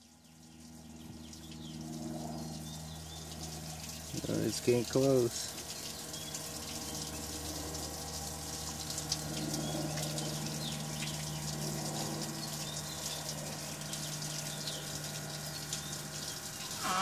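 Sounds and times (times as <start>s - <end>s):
electric water pump humming: 0.0s - 17.0s.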